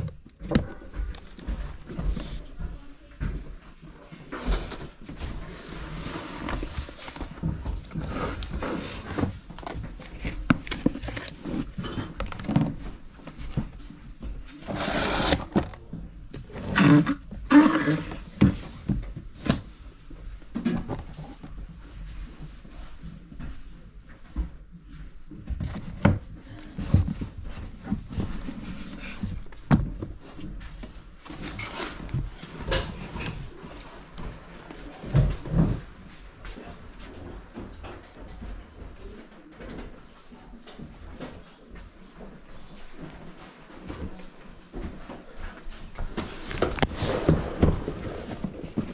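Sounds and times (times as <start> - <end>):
rustling of handled things: 0.0 - 48.9.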